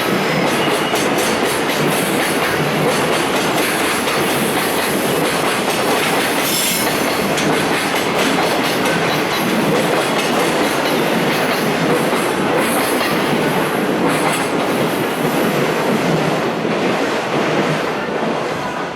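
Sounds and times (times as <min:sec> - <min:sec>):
train wheels clattering on rails: 0:00.0 - 0:18.4.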